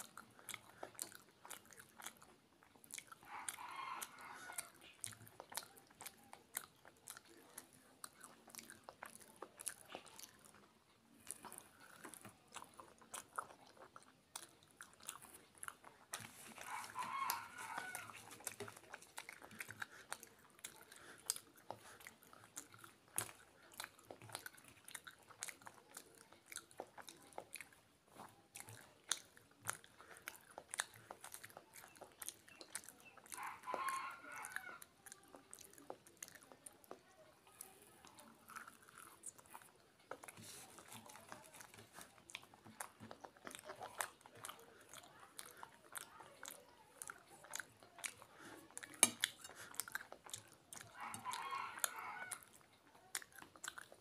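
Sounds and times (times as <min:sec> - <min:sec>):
close chewing and lip smacks: 0:00.0 - 0:54.0.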